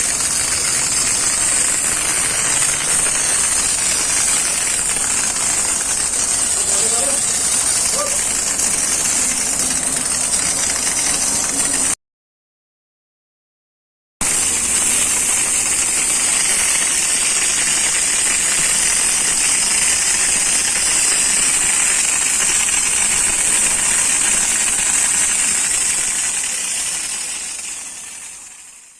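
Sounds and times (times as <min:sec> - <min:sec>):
high-pressure washing jet hissing: 0:00.0 - 0:12.0, 0:14.2 - 0:28.9.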